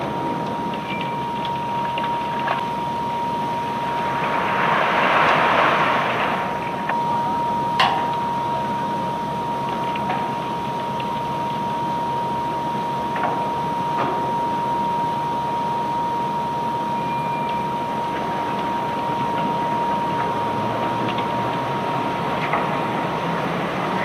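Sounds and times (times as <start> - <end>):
machinery high whine: 0.0 - 24.0.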